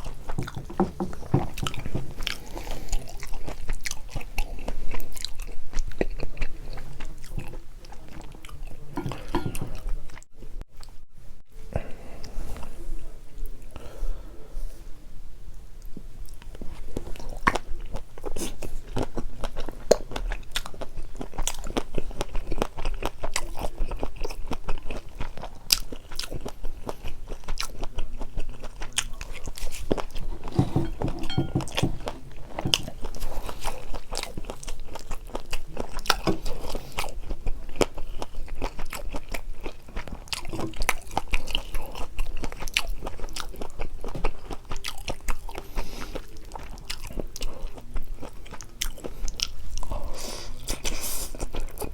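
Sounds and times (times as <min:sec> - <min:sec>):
close chewing and biting: 0:00.0 - 0:10.9, 0:15.8 - 0:51.9.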